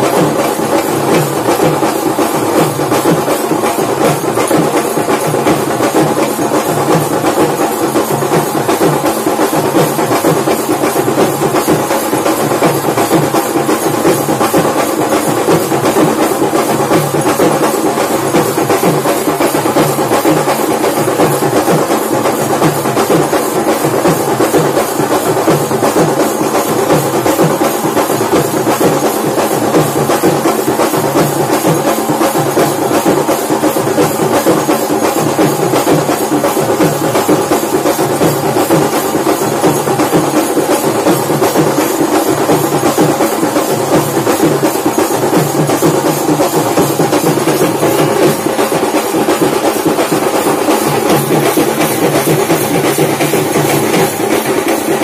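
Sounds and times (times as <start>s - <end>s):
drums beaten in fast rhythm: 0.0s - 55.0s.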